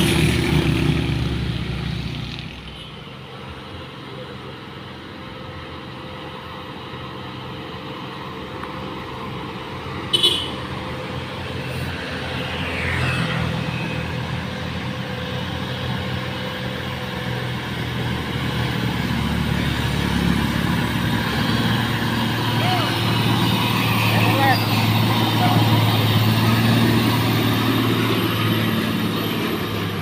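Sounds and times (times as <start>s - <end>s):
diesel truck engine labouring: 0.0s - 30.0s.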